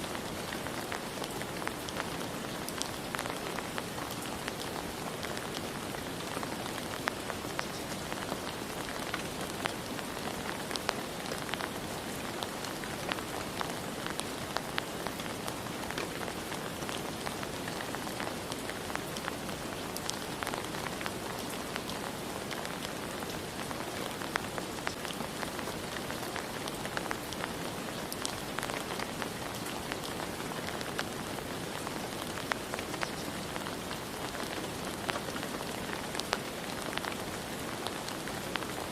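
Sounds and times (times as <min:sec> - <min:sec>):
steady rain hiss: 0:00.0 - 0:38.9
raindrops ticking: 0:00.1 - 0:38.9.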